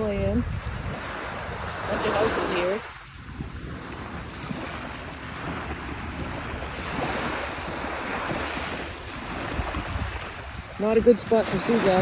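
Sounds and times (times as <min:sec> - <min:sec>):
ocean waves washing on beach: 0:00.0 - 0:12.0
wind rumbling on microphone: 0:00.0 - 0:12.0.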